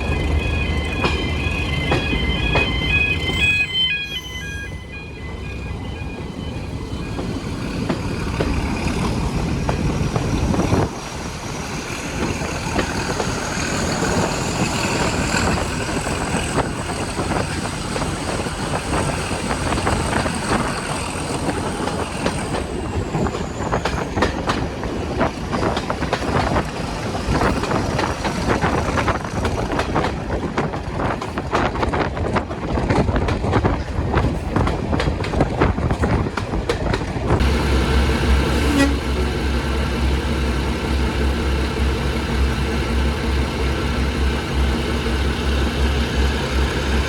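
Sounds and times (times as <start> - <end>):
train running past: 0.0 - 47.0
wheels clattering over rail joints: 7.1 - 47.0.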